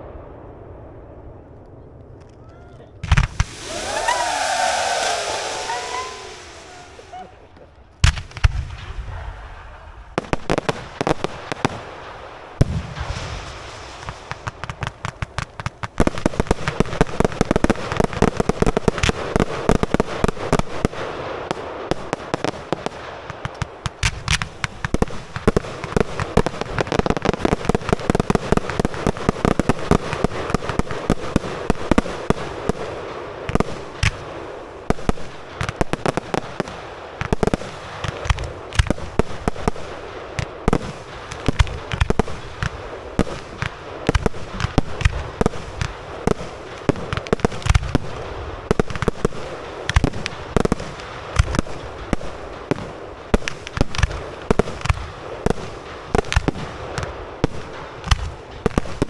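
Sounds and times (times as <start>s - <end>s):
fireworks bangs: 2.9s - 59.0s
fireworks crackle: 3.0s - 59.0s.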